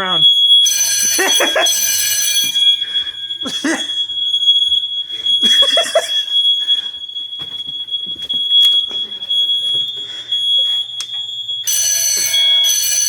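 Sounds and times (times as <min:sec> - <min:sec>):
fire alarm steady high tone: 0:00.0 - 0:13.0.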